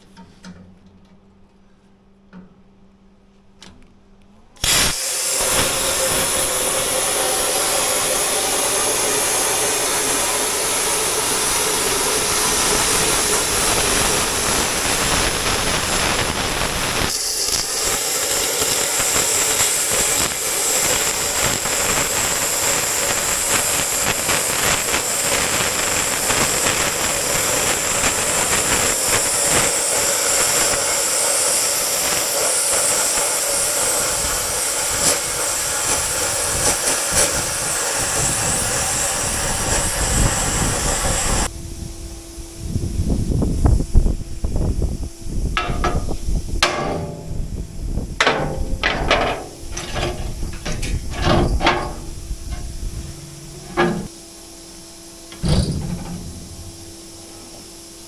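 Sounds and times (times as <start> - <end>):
cutting torch hissing: 4.6 - 41.8, 43.0 - 58.0.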